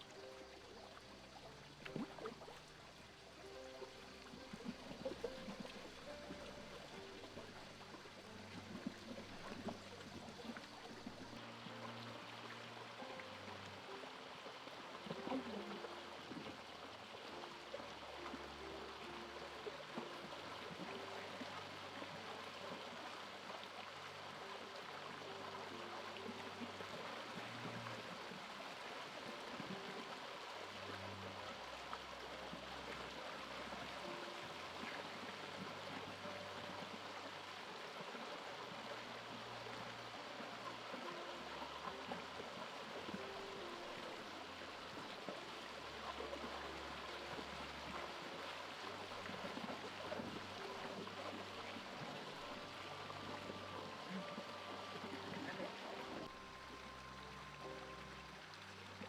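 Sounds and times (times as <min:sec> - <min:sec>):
soft low music notes: 0:00.0 - 0:59.0
stream water rushing: 0:00.0 - 0:59.0.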